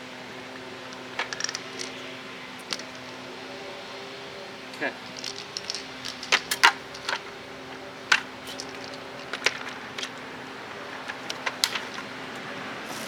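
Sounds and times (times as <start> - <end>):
steady low hum: 0.0 - 13.0
tools clicking on a workbench: 0.8 - 12.4.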